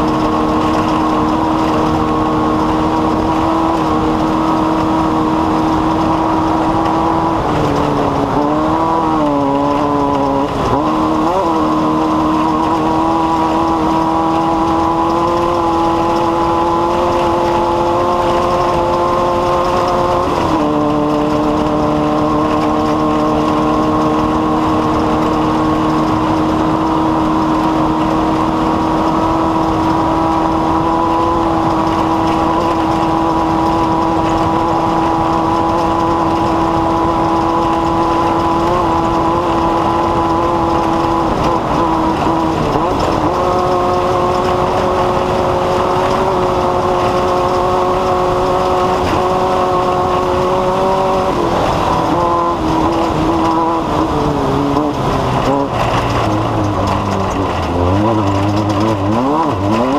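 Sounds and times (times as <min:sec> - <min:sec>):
small engine running at high speed: 0:00.0 - 0:59.9.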